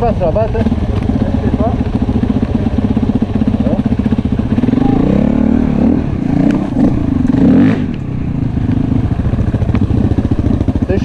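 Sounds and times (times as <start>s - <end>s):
engine revving: 0.0s - 11.0s
motorcycle engine idling: 0.0s - 11.0s.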